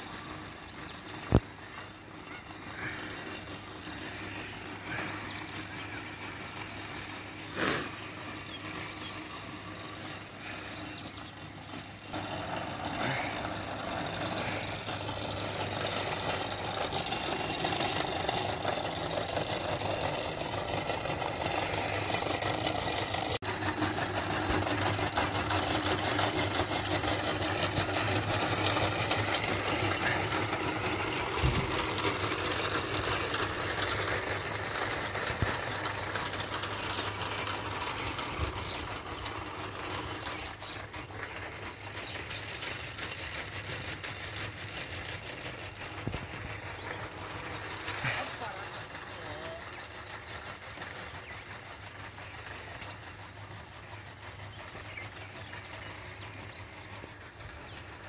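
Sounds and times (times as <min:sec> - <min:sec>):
fodder chopper machine whirring: 0:00.0 - 0:58.0.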